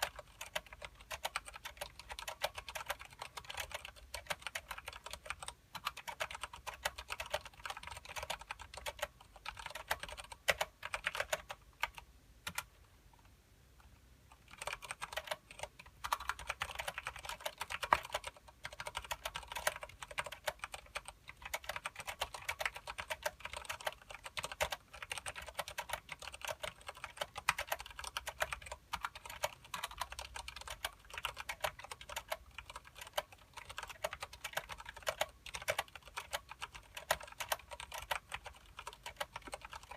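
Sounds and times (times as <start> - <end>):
mechanical keyboard typing: 0.0 - 12.8, 14.3 - 39.9.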